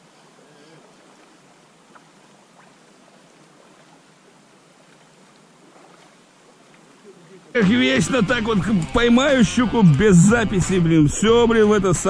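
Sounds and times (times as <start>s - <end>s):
quiet river hiss: 0.0s - 12.0s.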